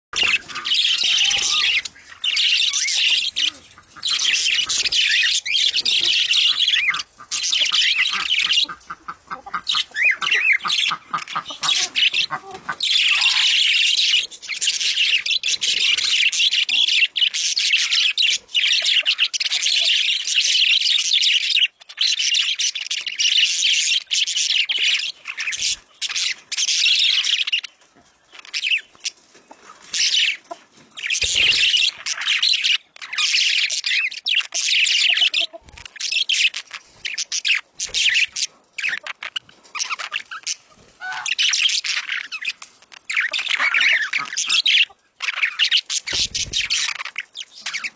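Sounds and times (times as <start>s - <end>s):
budgerigars chattering and warbling: 0.2s - 47.9s.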